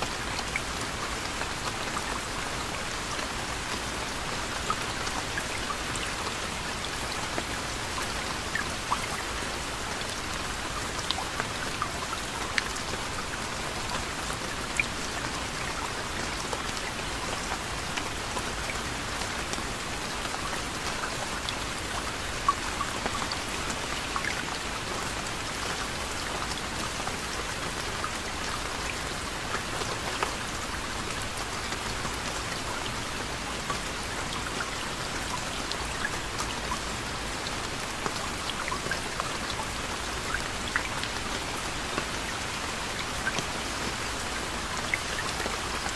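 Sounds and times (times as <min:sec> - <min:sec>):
soft rain hiss: 0:00.0 - 0:45.9.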